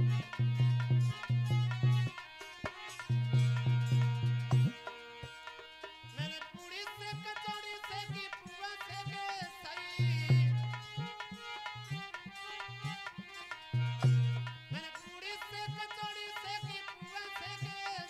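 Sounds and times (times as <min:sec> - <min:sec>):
hand-drum rhythm: 0:00.0 - 0:18.0.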